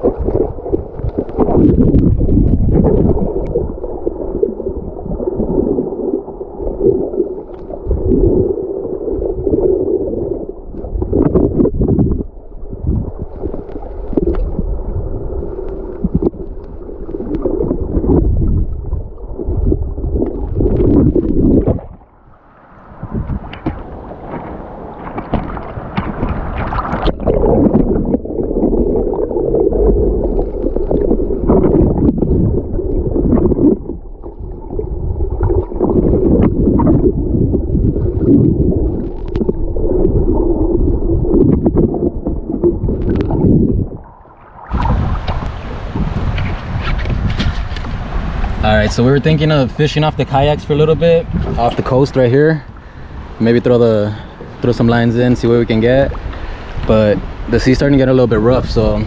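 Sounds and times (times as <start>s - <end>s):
water splashing around kayak: 0.0s - 59.0s
wind buffeting microphone: 0.0s - 59.0s.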